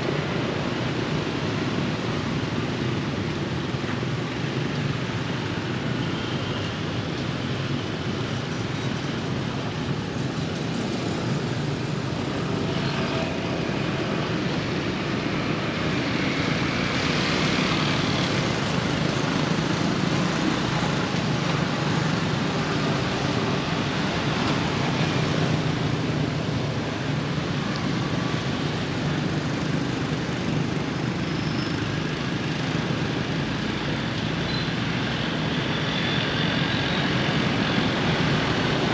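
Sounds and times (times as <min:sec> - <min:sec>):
low rumble of road traffic: 0:00.0 - 0:38.9.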